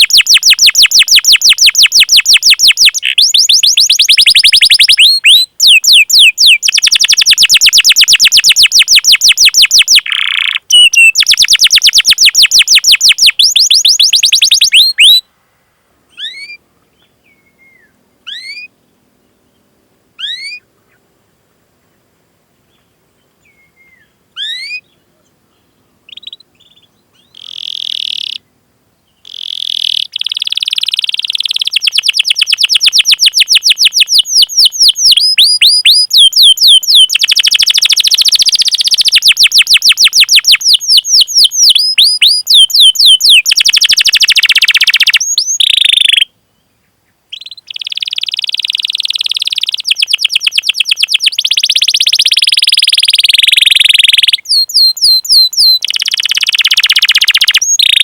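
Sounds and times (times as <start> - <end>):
canary singing trills: 0.0 - 15.3, 16.1 - 18.8, 19.4 - 21.0, 22.7 - 46.3, 47.3 - 58.0.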